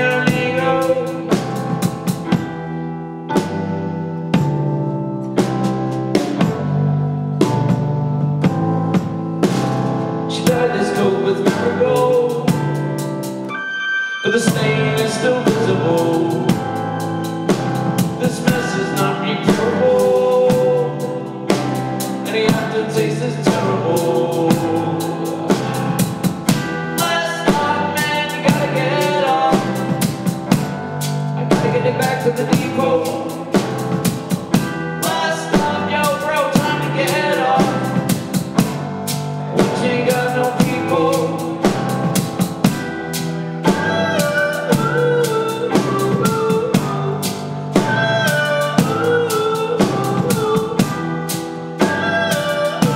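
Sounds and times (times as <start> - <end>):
bass drum: 0.0 - 13.5, 14.5 - 52.9
drum kit played with sticks: 0.0 - 13.6, 14.3 - 52.9
electronic keyboard: 0.0 - 52.9.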